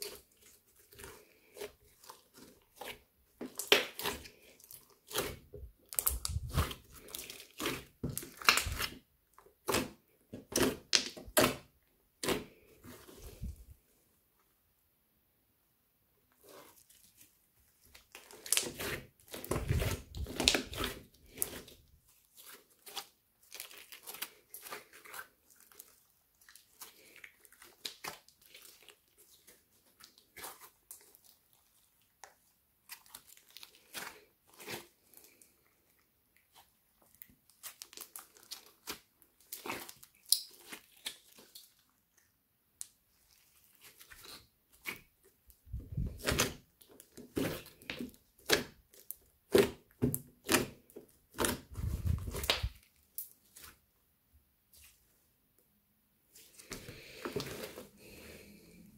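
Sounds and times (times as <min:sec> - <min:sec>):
slime squelching and crackling: 0:00.0 - 0:13.8, 0:16.4 - 0:53.9, 0:56.3 - 0:58.9.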